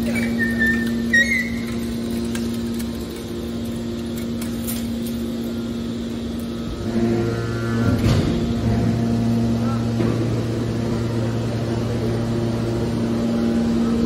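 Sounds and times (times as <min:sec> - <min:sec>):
deep hydraulic hum under load: 0:00.0 - 0:14.0
hydraulic power unit humming: 0:00.0 - 0:14.0.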